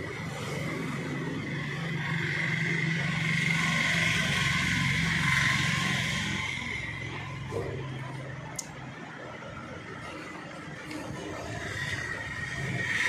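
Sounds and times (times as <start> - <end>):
mechanical hum with held tones: 0.0 - 13.0.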